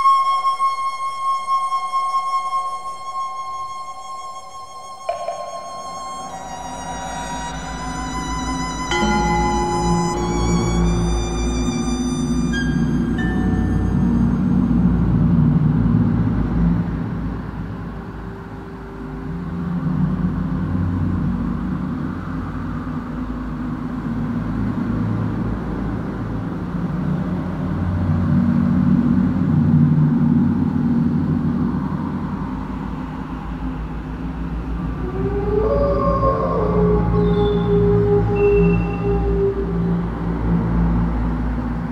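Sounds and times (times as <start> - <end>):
low continuous rumble: 0.0 - 41.9.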